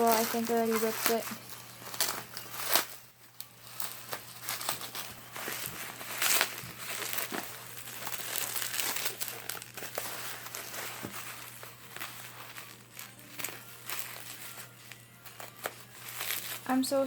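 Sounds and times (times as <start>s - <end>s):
bubble wrap crinkling and tearing: 0.0s - 17.0s.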